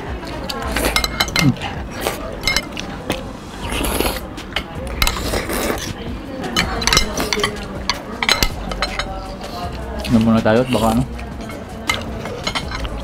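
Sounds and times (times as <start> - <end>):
cutlery clinking on plates: 0.4 - 1.7, 2.4 - 3.2, 4.6 - 13.0.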